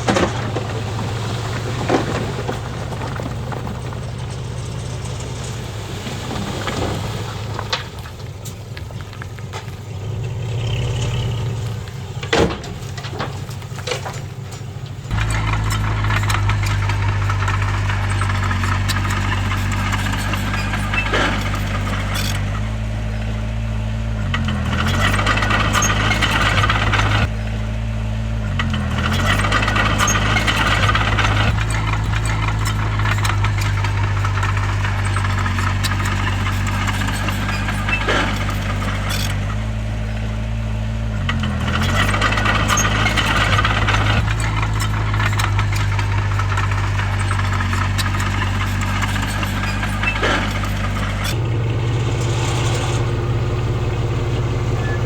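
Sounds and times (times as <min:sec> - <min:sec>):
metallic rattling: 0:00.0 - 0:22.9, 0:28.8 - 0:55.0
bulldozer diesel engine running: 0:00.0 - 0:55.0.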